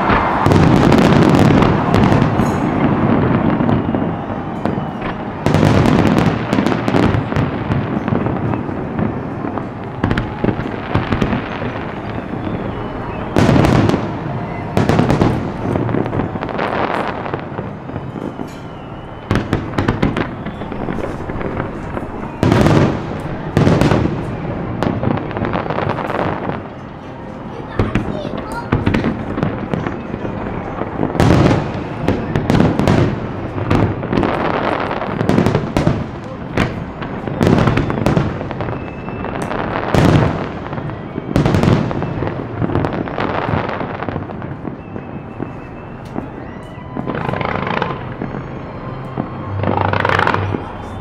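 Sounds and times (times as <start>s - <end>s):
fireworks bursting bangs: 0.0s - 51.0s
fireworks crackling: 0.0s - 51.0s.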